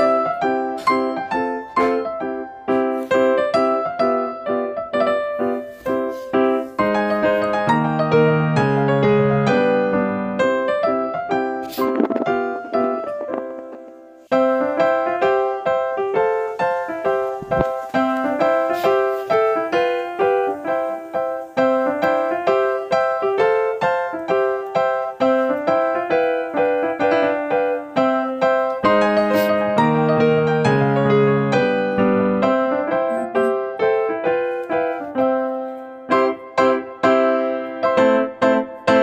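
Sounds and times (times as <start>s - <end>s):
piano light melody: 0.0s - 39.0s.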